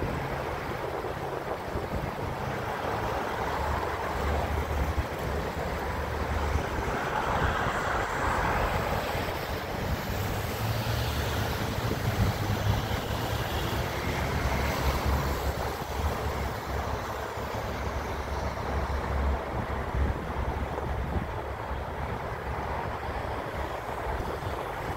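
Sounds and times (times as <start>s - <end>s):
traffic: 0.0s - 24.9s
wind: 0.0s - 24.9s
wind buffeting microphone: 0.0s - 24.9s.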